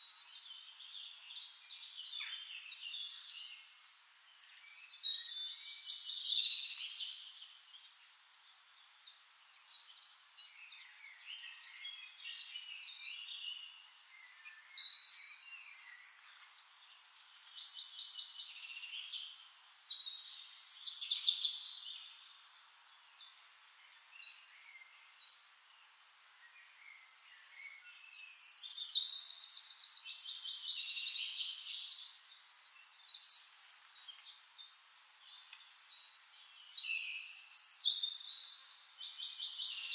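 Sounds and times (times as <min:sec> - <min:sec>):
faint bird chirping: 0:00.0 - 0:39.9
songbirds singing: 0:00.0 - 0:39.9.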